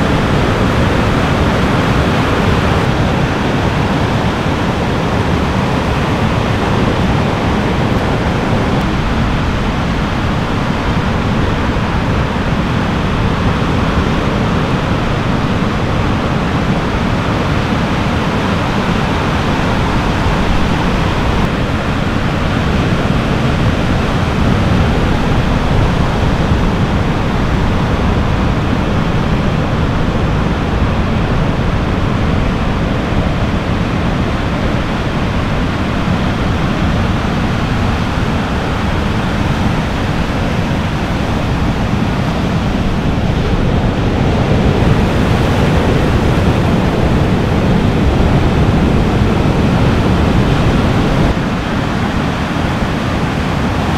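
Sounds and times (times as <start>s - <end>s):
ocean surf breaking: 0.0s - 53.9s
wind: 0.0s - 53.9s.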